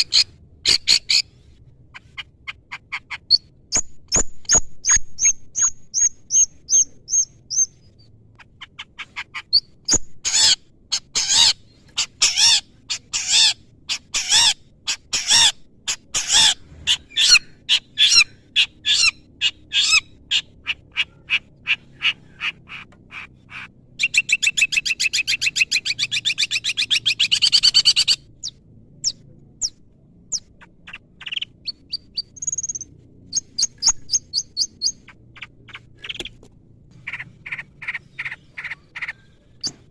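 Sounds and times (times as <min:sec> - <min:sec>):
bird singing varied song: 0:02.0 - 0:36.4, 0:37.0 - 0:39.9.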